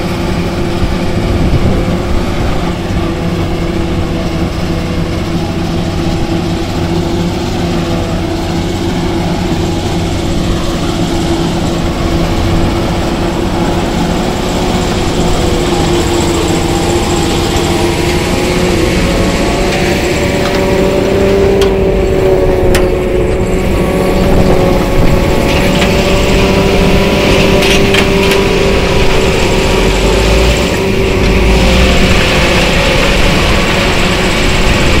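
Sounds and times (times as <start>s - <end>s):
forage harvester engine droning: 0.0s - 35.0s.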